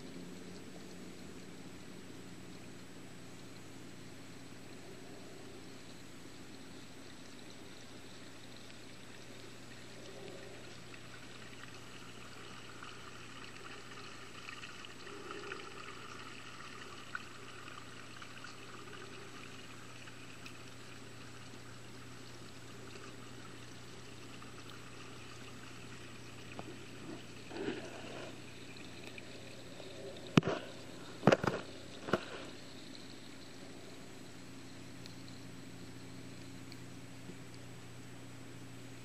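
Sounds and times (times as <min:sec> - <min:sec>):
constant low hum: 0:00.0 - 0:39.0.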